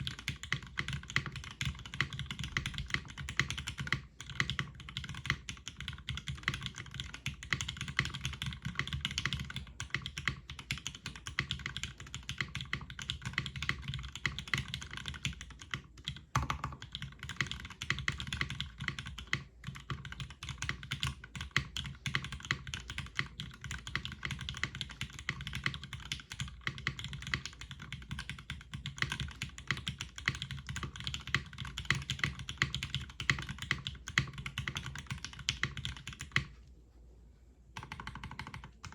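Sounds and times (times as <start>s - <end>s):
mechanical keyboard typing: 0.0s - 36.5s, 37.8s - 38.9s.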